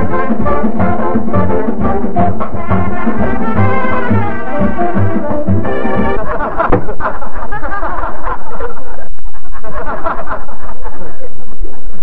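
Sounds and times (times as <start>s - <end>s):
crowd laughing and chattering: 0.0s - 12.0s.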